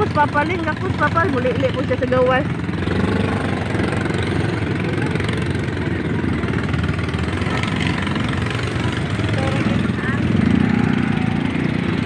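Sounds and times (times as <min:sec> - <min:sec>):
motorcycle engine passing slowly: 0:00.0 - 0:12.0.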